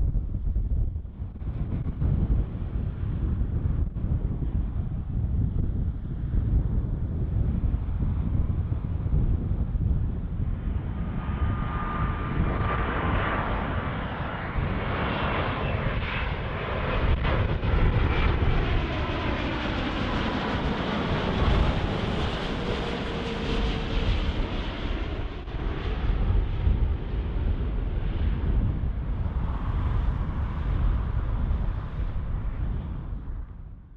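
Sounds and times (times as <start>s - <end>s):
jet airliner passing: 0.0s - 33.9s.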